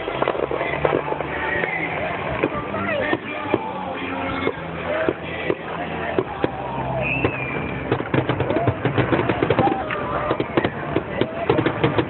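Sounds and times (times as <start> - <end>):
fireworks crackling pops: 0.0 - 12.0.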